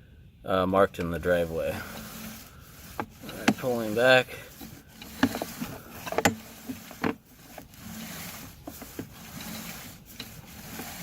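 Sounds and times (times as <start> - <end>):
cable clicking and knocking: 1.9 - 11.0.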